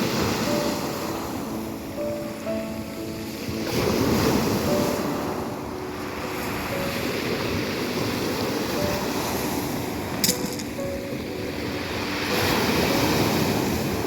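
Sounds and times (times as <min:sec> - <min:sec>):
sea waves washing ashore: 0:00.0 - 0:14.0.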